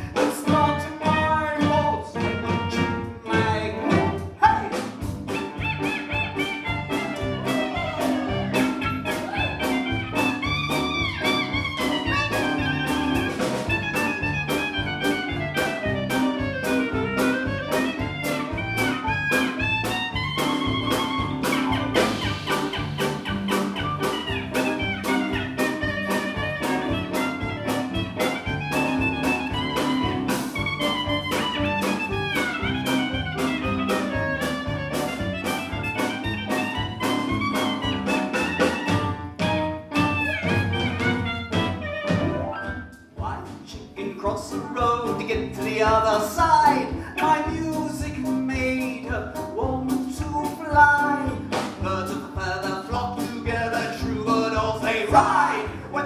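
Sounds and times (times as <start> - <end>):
live jazz band playing swing: 0.0 - 56.0.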